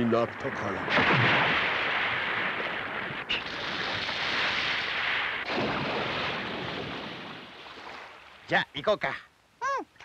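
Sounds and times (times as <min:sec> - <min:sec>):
water rushing and splashing: 0:00.0 - 0:09.0.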